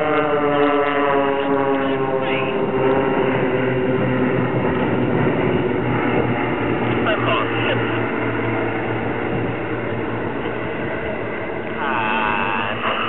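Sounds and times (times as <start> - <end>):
propeller aircraft droning overhead: 0.0 - 13.0.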